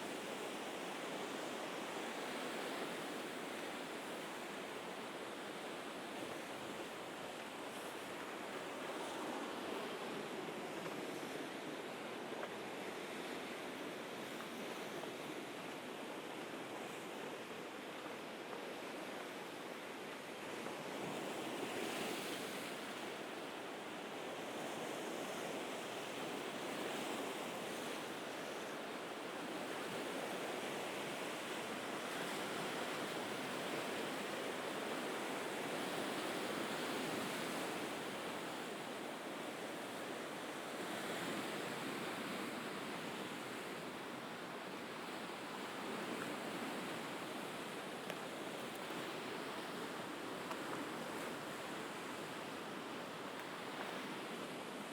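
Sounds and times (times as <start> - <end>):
sea waves washing on shore: 0.0 - 54.9.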